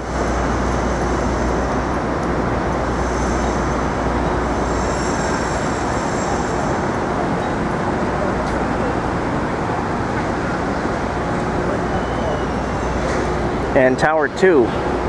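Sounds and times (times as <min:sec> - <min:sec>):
city street traffic: 0:00.0 - 0:15.0.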